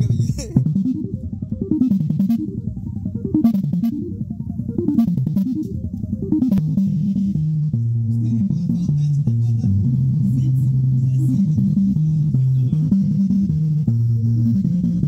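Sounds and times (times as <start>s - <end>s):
loud music through speakers: 0.0s - 15.0s
sliding bass line: 0.0s - 15.0s.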